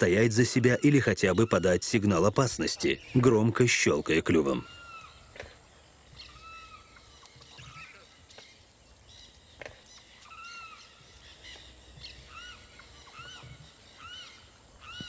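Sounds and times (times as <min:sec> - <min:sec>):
bird chirping: 0:00.0 - 0:15.0
faint bird calls: 0:00.0 - 0:15.0.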